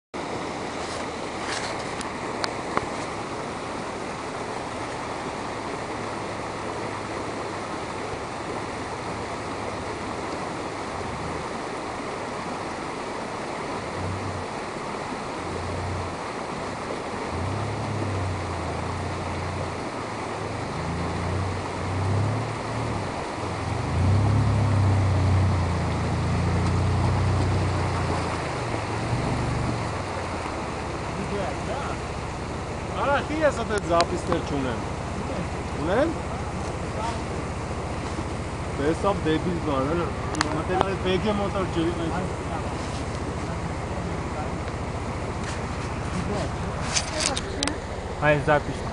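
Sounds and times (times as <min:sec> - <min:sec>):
car engine: 0:00.2 - 0:48.9
stream rushing over stones: 0:00.2 - 0:48.9
vehicle splashing through water: 0:00.2 - 0:48.9.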